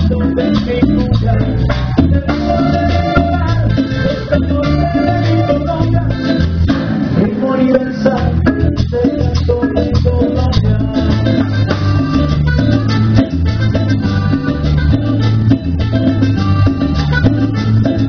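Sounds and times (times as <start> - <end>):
latin dance band: 0.0 - 18.0.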